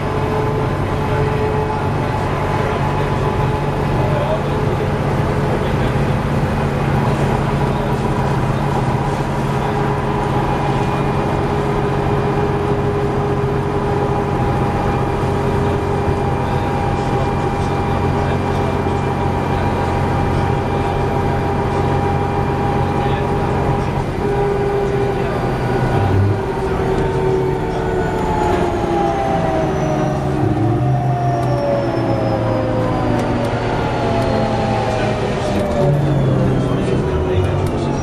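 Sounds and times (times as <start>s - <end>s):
diesel engine drone: 0.0s - 38.0s
whining tones: 6.6s - 38.0s.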